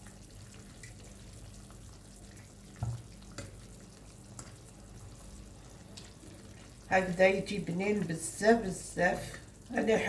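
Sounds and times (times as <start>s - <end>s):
sauce bubbling in a pan: 0.0s - 10.0s.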